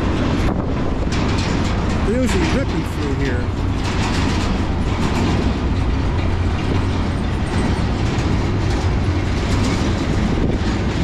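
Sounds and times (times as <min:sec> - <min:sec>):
steel wheels rumbling on rail: 0:00.0 - 0:11.0.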